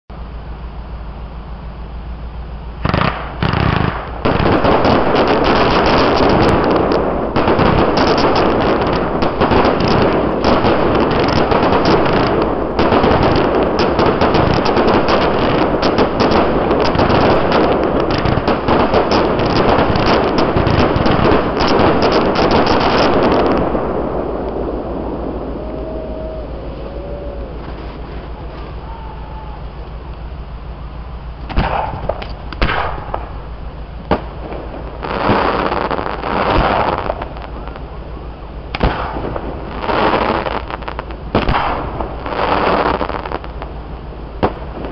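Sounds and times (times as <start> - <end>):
fireworks popping and crackling: 2.8 - 26.0, 27.2 - 30.2, 31.4 - 44.9
fireworks bangs: 2.8 - 30.6, 31.4 - 44.9.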